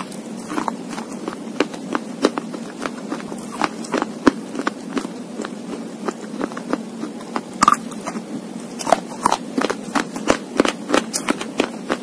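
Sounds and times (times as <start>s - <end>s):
slate crunching being chewed: 0.0s - 12.0s.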